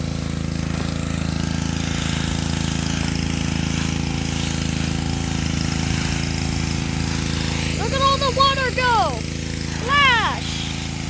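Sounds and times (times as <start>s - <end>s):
high-pressure water spray hiss: 0.0s - 11.0s
pressure washer engine: 0.0s - 11.0s.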